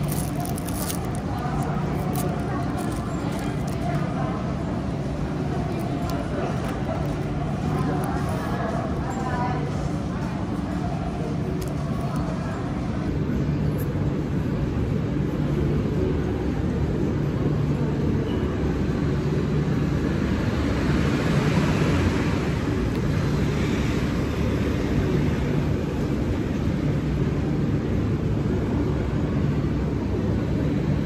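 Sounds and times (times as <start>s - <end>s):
low urban rumble and hum: 0.0s - 31.0s.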